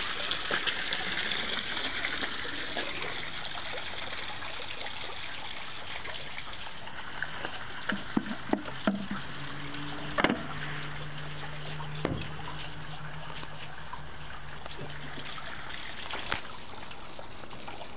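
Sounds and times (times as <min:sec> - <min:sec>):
water trickling from a pipe: 0:00.0 - 0:17.9.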